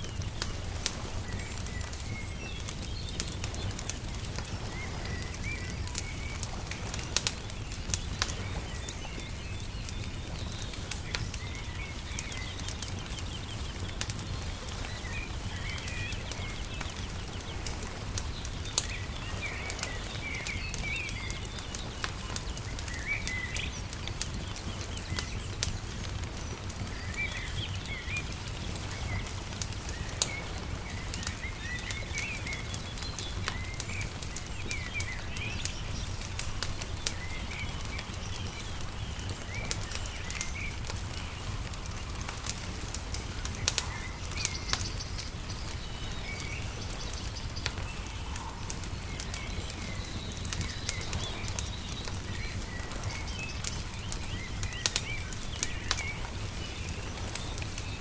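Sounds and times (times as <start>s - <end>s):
small birds chirping: 0.0s - 58.0s
wood fire crackling and popping: 0.0s - 58.0s.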